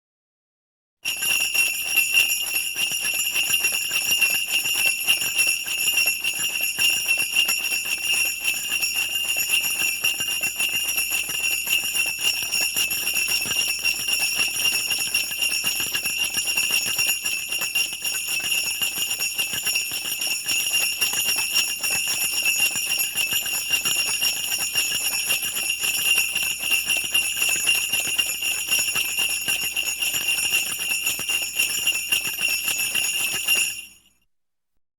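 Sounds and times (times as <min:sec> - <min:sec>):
sleigh bells jingling: 0:01.1 - 0:34.0.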